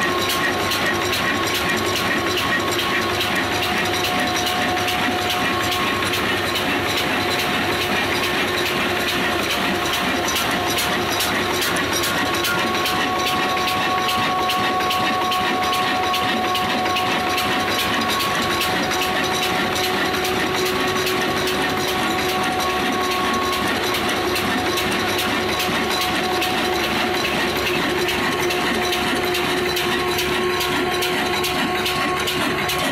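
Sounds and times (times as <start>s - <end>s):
stationary diesel engine knocking: 0.0s - 32.9s
steady whine: 0.0s - 32.9s.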